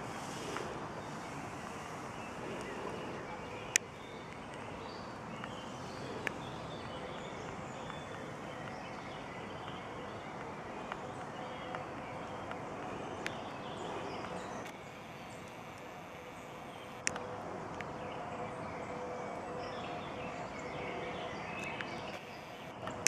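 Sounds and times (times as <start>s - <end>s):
distant birds chirping: 0.0s - 23.0s
steady background hiss: 0.0s - 23.0s.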